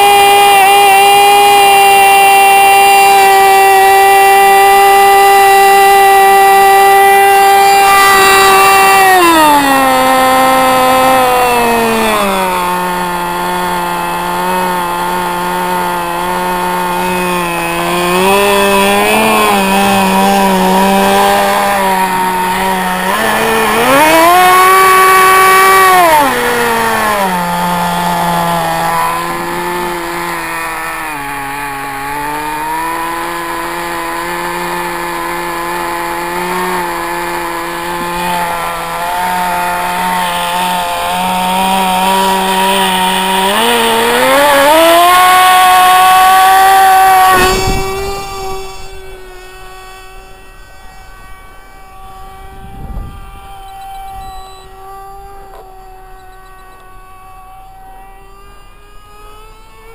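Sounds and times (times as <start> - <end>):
model airplane engine revving: 0.0 - 59.9.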